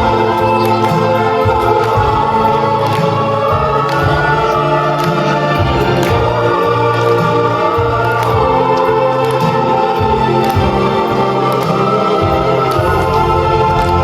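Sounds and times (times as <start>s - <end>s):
bass line: 0.0s - 14.0s
choir singing: 0.0s - 14.0s
instrumental accompaniment: 0.0s - 14.0s.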